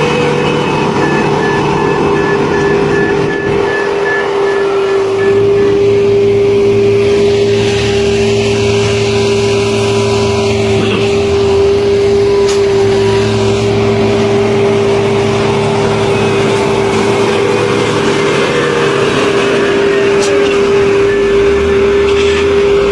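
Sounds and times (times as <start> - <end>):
construction machinery engine hum: 0.0 - 22.9
loud machinery whine: 0.0 - 22.9.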